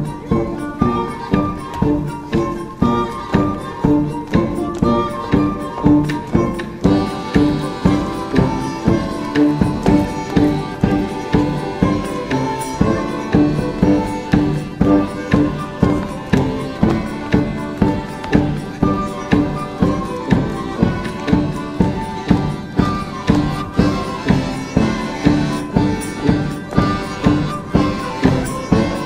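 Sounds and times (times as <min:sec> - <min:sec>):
folk ensemble playing dance tune: 0:00.0 - 0:29.0.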